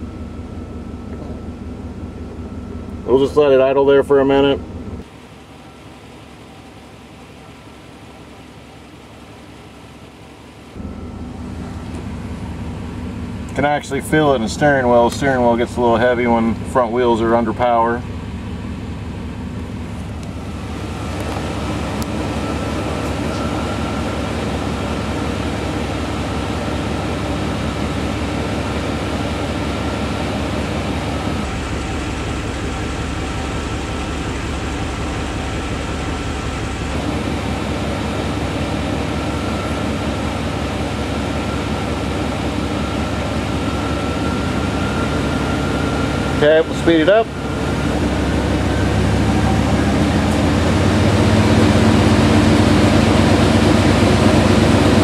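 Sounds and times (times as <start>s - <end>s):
drivetrain mechanical hum: 0.0s - 55.0s
steady mechanical whine: 0.0s - 55.0s.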